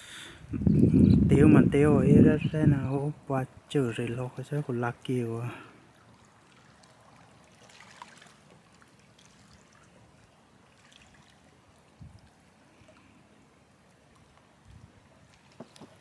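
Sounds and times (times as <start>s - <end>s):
faint trickling water: 2.1s - 16.0s.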